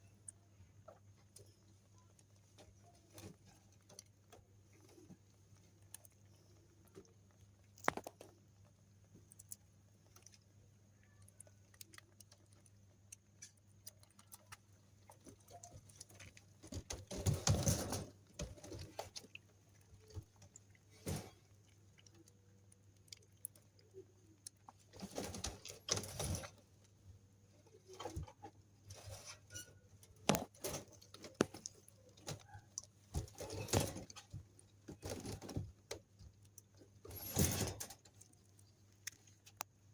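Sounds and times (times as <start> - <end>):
rabbit sucking milk: 0.0 - 37.4.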